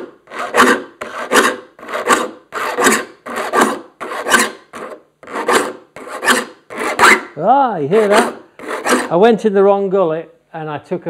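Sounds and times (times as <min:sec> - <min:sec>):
file rasping on saw teeth: 0:00.0 - 0:09.2.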